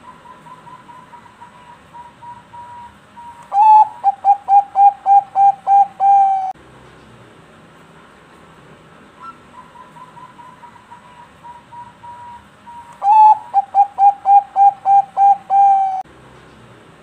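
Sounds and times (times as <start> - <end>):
dove singing: 0.0 - 6.6, 9.2 - 16.6.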